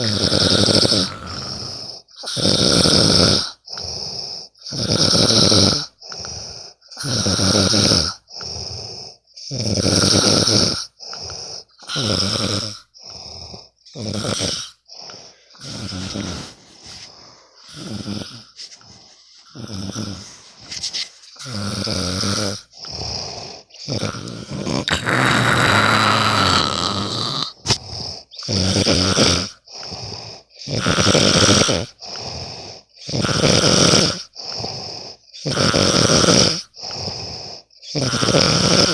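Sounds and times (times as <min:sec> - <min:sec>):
loud snoring: 0:00.0 - 0:38.9.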